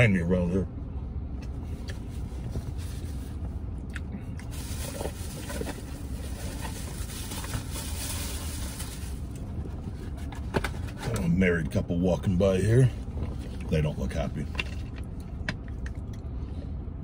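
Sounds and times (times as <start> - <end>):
vehicle rumble inside cab: 0.0 - 17.0.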